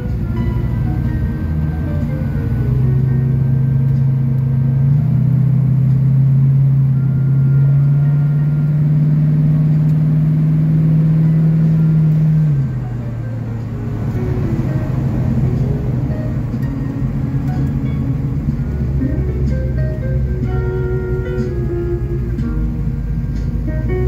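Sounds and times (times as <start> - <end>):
race car engine drone: 0.0 - 24.0.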